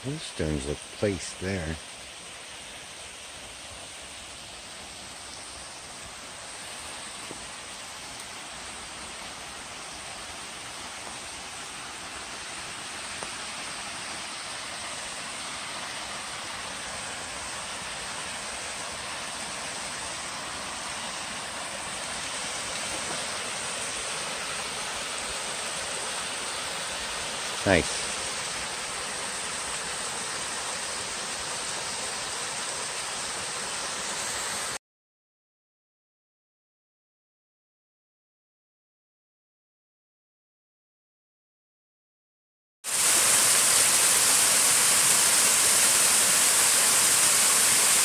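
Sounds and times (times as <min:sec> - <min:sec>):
waterfall rushing: 0:00.0 - 0:02.1, 0:02.9 - 0:34.8, 0:42.9 - 0:48.0.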